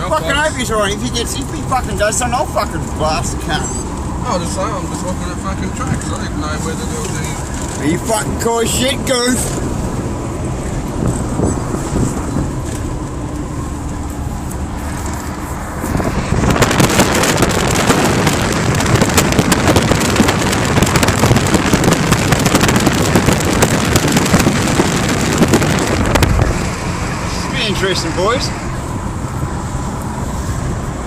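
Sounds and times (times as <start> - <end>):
dense crackling rush: 0.0 - 31.0
vehicle engine and road noise: 0.0 - 31.0.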